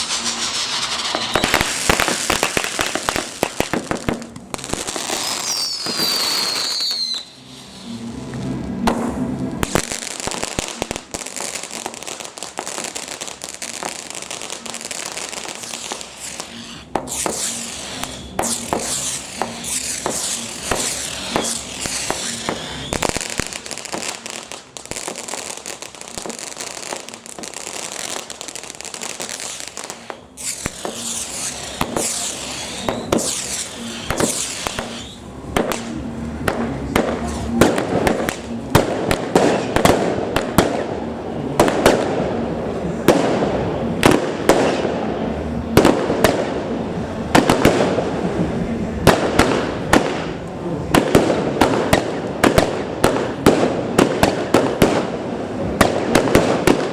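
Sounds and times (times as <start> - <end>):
fireworks bangs and crackling: 0.0 - 56.9
whistling fireworks: 0.0 - 56.9.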